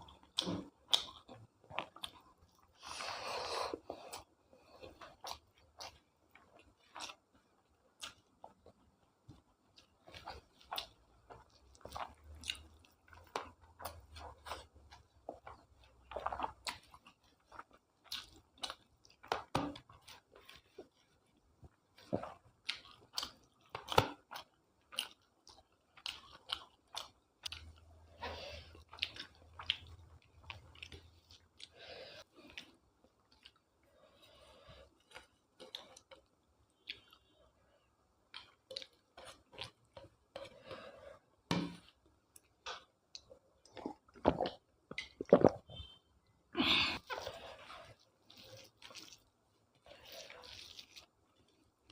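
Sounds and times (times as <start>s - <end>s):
person chewing food: 0.0s - 46.0s, 46.6s - 51.9s.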